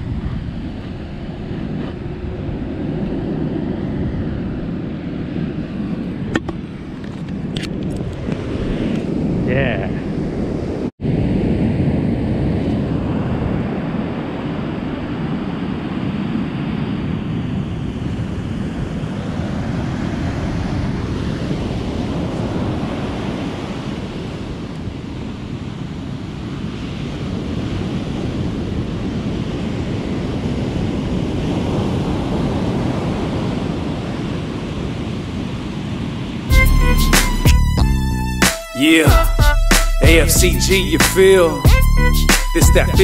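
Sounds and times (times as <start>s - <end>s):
ocean surf breaking on beach: 0.0s - 7.0s, 8.2s - 36.5s
wind on microphone: 0.0s - 36.5s.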